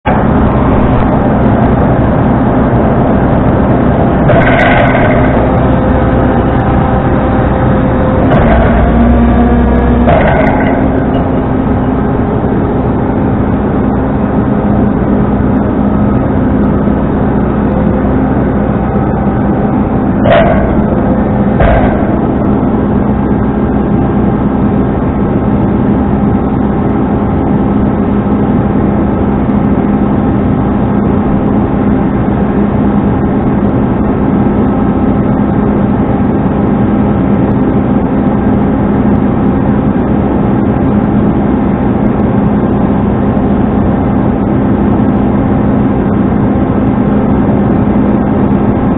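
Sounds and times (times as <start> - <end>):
tow truck engine running: 0.0 - 48.9.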